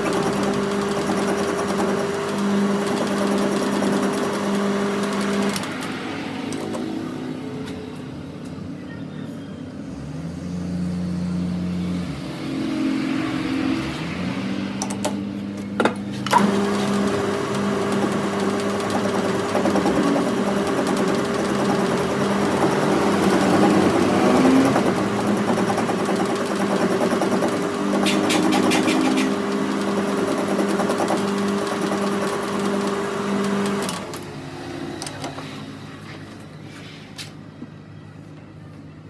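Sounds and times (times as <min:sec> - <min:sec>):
workshop machine running: 0:00.0 - 0:39.0.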